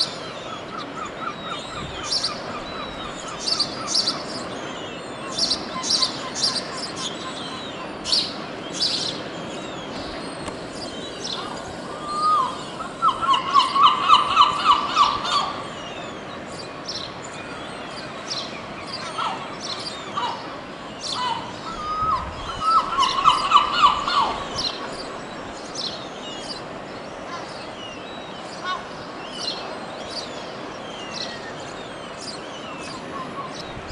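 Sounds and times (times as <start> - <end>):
gulls calling: 0.0 - 33.9.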